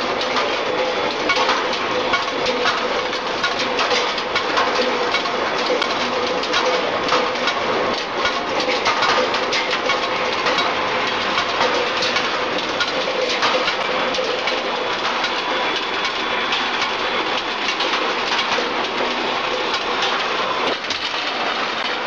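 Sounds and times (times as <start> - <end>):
rolling mill metal clatter: 0.0 - 22.0.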